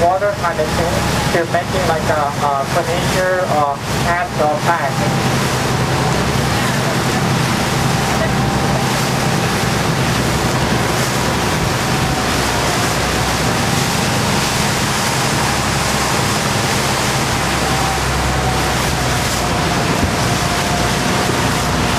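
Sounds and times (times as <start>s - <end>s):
boat engine running: 0.0s - 21.9s
water splashing along hull: 0.0s - 21.9s.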